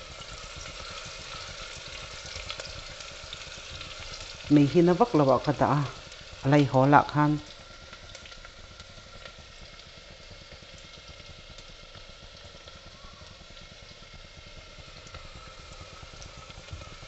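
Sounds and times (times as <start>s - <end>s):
onion frying in oil: 0.0s - 17.0s.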